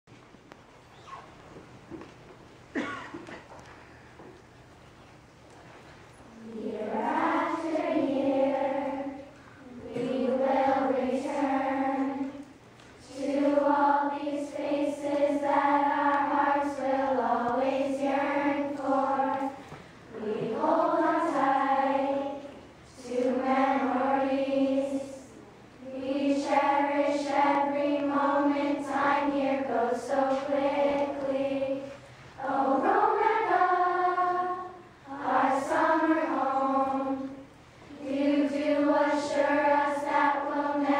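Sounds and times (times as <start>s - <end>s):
girls choir singing: 6.3s - 40.9s.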